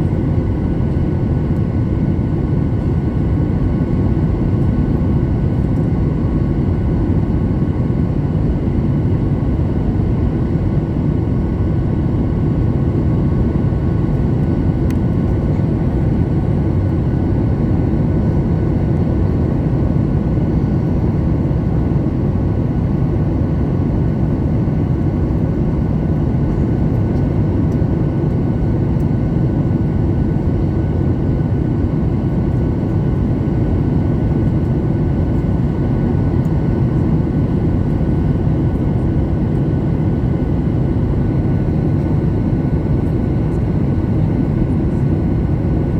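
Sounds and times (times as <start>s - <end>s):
jet engines roaring in cabin: 0.0s - 45.9s.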